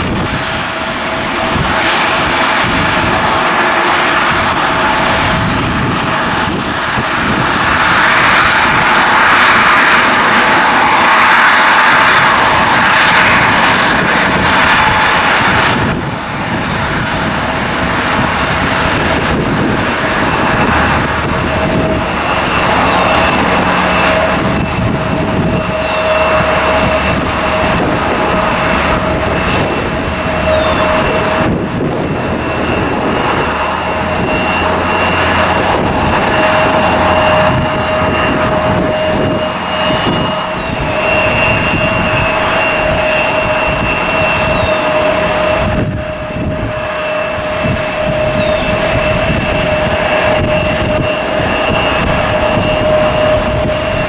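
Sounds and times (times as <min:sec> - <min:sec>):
jet engines whining: 0:00.0 - 0:54.0
low rumble: 0:00.0 - 0:54.0
wind buffeting microphone: 0:00.0 - 0:54.0.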